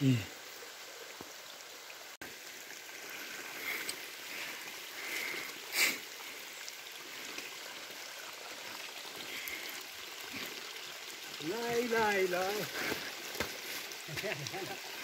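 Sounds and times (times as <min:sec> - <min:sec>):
rain and running water hiss: 0:00.0 - 0:15.0.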